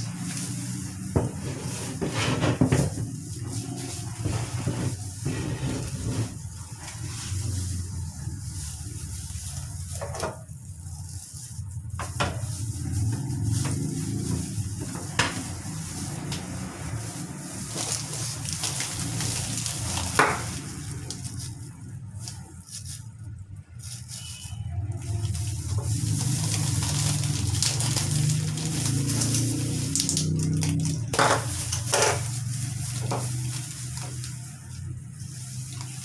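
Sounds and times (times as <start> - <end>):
plastic bag crinkling: 0.0 - 36.0.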